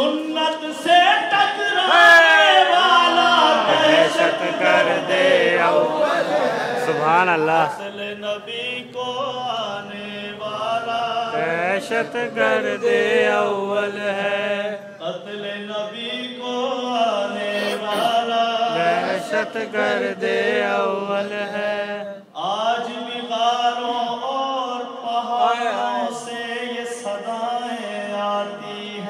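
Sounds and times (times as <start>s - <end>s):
man chanting into a microphone: 0.0s - 6.0s, 6.7s - 20.0s, 21.1s - 29.0s.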